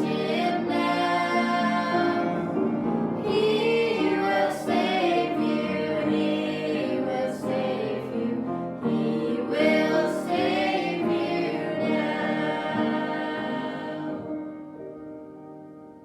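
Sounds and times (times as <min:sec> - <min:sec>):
choir singing gospel: 0:00.0 - 0:14.6
instrumental accompaniment: 0:00.0 - 0:16.0.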